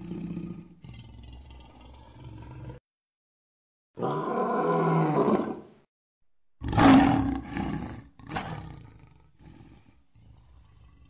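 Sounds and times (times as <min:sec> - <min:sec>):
big cat roaring: 0:00.0 - 0:02.8, 0:04.0 - 0:05.7, 0:06.6 - 0:11.0.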